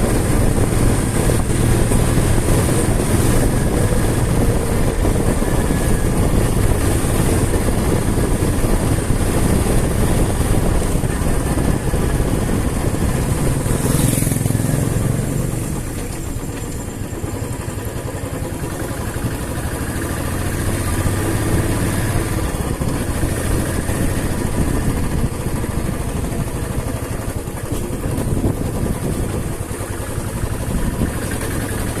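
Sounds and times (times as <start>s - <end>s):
motorcycle engine running: 0.0s - 32.0s
road noise: 0.0s - 32.0s.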